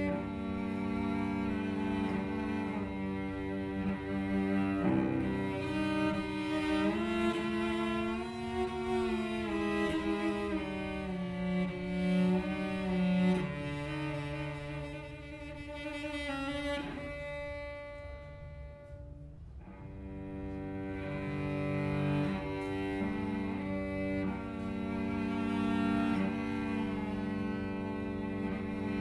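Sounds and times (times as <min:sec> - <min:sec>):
cello long bowed notes: 0:00.0 - 0:29.0.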